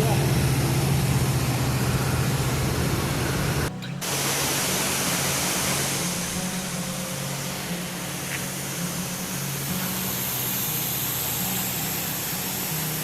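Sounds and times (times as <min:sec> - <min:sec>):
low vehicle engine hum: 0:00.0 - 0:13.0
waterfall rushing: 0:00.0 - 0:13.0.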